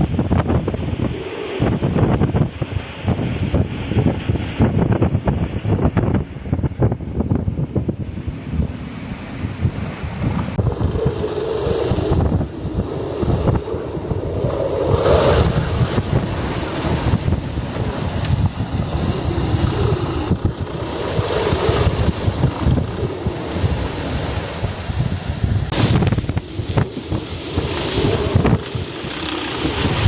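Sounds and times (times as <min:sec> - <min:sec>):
hurricane wind buffeting microphone: 0:00.0 - 0:30.0.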